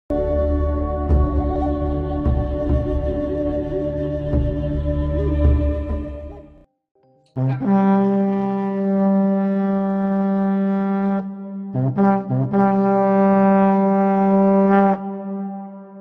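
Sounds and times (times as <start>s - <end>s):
horn blowing long notes: 0.1s - 6.4s, 7.4s - 16.0s.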